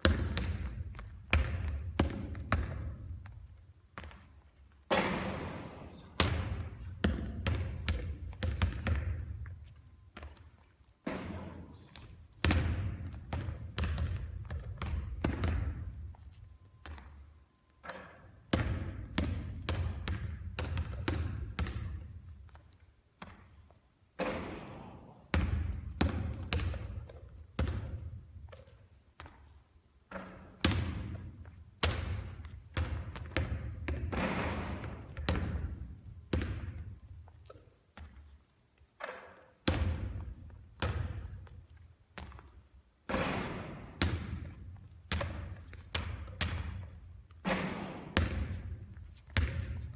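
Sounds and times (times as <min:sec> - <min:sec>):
basketball bouncing on court floor: 0:00.0 - 0:38.4, 0:39.0 - 0:49.9.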